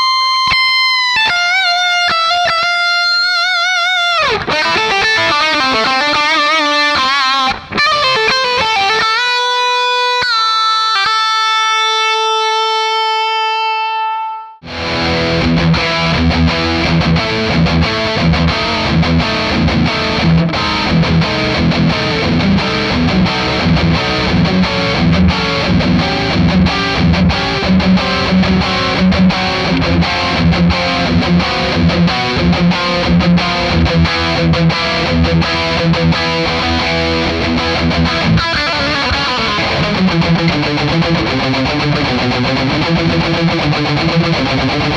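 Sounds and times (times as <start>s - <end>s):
distorted electric guitar riff: 0.0s - 44.9s.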